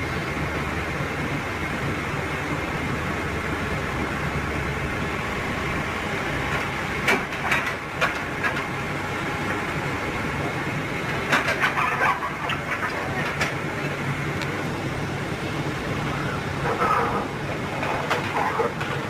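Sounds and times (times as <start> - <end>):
heavy machinery rumbling: 0.0 - 19.0.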